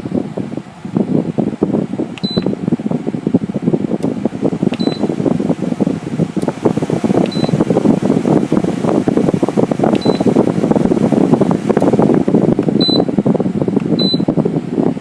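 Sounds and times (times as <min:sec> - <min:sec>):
air conditioner fan running: 0:00.0 - 0:15.0.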